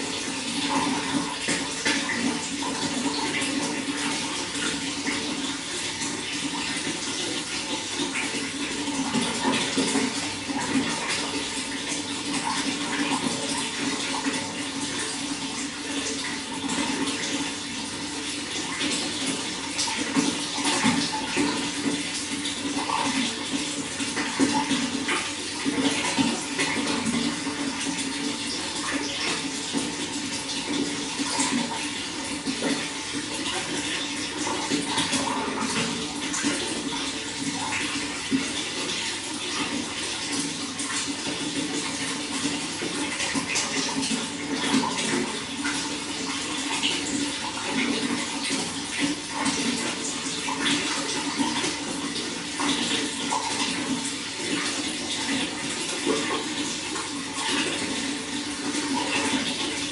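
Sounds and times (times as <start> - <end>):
running water flowing: 0.0 - 59.9.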